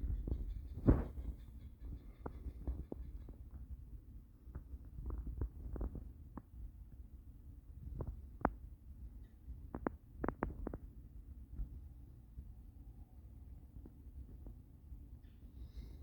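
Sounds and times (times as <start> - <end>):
wind rumble on microphone: 0.0 - 15.2.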